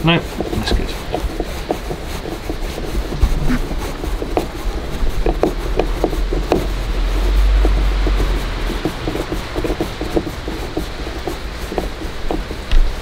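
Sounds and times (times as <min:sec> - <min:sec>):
light taps and knocks: 0:00.0 - 0:13.0
low steady hum: 0:00.0 - 0:13.0.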